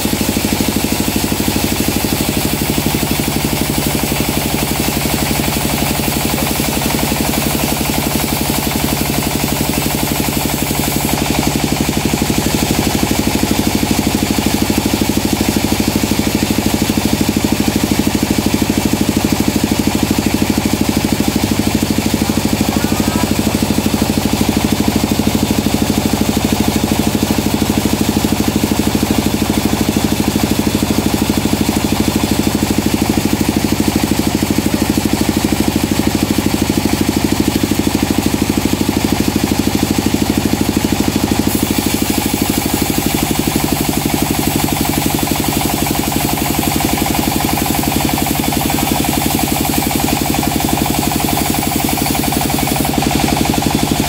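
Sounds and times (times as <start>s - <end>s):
sawmill motor drone: 0.0s - 54.0s.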